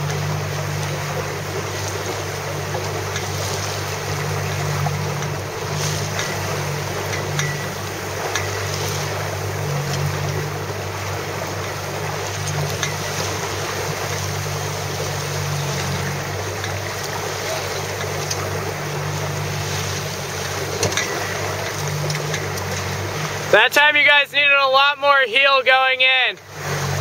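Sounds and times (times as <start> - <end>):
boat motor humming: 0.0 - 27.0
water noise: 0.0 - 27.0
wind: 0.0 - 27.0.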